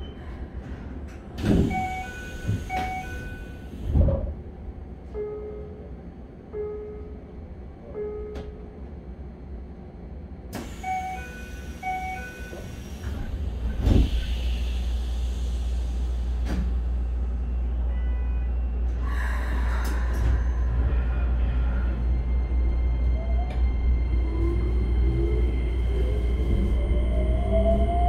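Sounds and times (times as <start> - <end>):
train car low rumble: 0.0 - 28.0.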